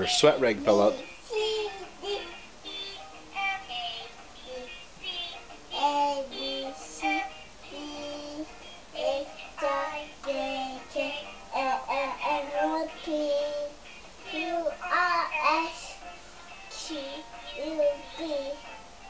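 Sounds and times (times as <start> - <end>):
child singing: 0.0 - 16.0, 16.7 - 18.7.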